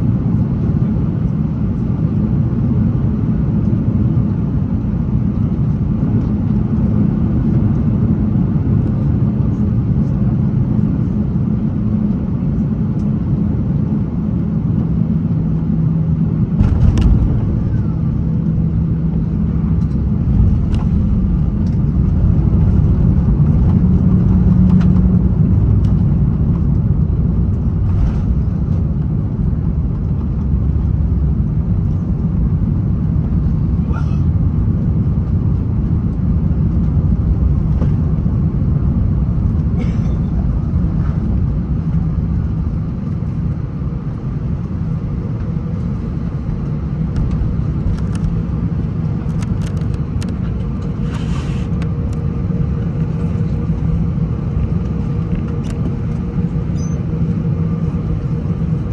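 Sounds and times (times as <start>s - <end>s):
aircraft engines idling: 0.0s - 58.9s.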